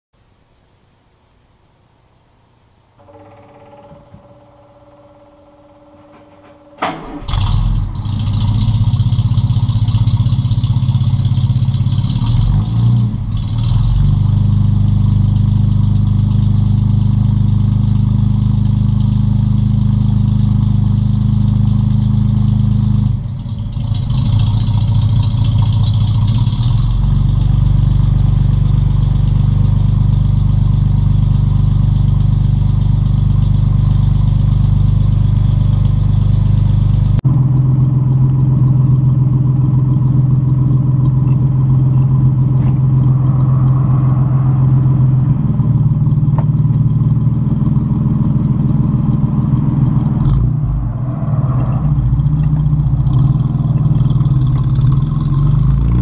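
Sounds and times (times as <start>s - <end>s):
car engine exhaust running: 2.8s - 56.0s.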